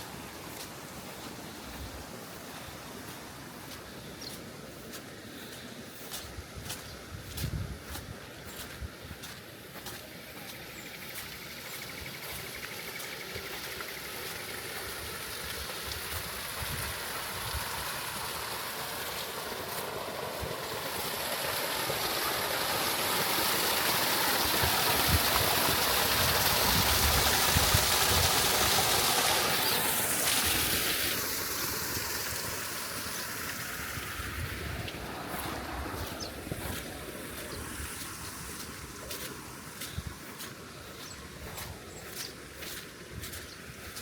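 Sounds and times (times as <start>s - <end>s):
water rushing: 0.0s - 44.0s.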